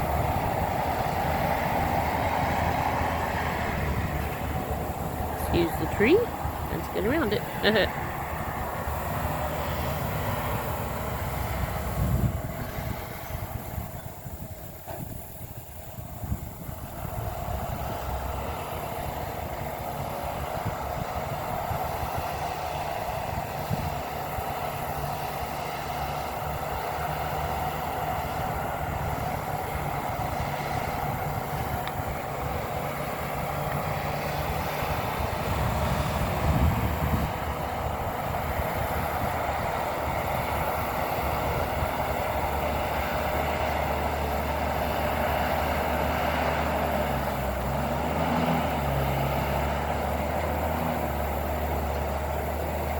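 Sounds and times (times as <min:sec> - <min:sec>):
distant bulldozer diesel engine: 0:00.0 - 0:52.9.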